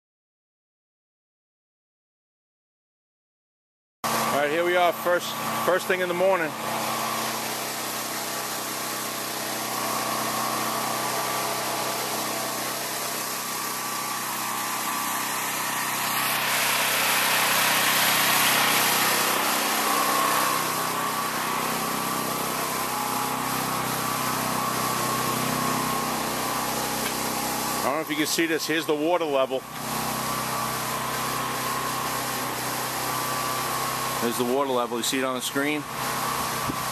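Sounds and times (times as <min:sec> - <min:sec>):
engine running steadily: 0:04.1 - 0:36.9.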